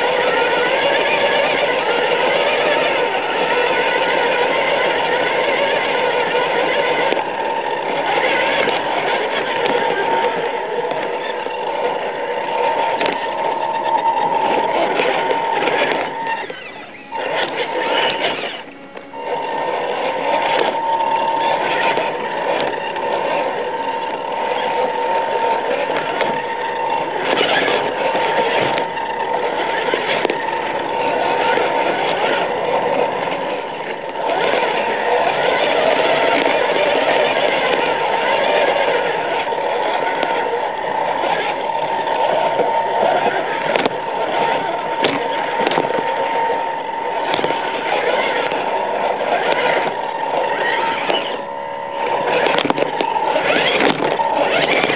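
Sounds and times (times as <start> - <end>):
small electric motor whining: 0.0 - 54.9.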